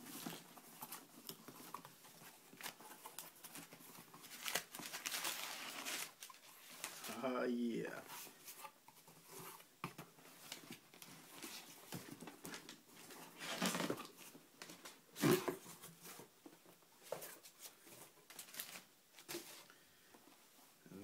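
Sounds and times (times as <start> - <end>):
cardboard rustling and scraping: 0.0 - 7.2, 8.0 - 19.7.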